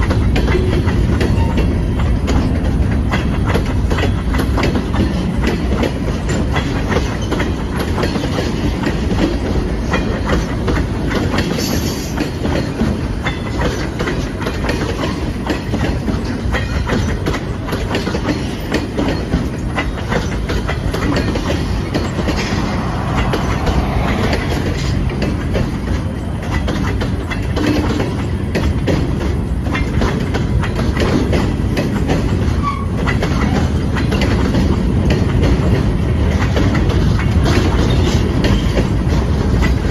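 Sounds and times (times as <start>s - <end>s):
train rumble: 0.0s - 39.9s
train wheels clicking on rail joints: 0.0s - 39.9s.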